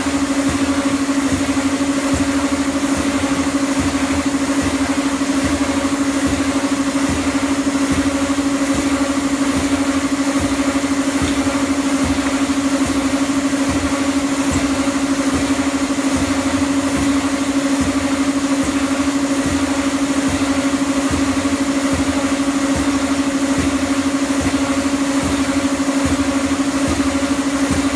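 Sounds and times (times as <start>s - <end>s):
cleaning machine humming: 0.0s - 27.9s.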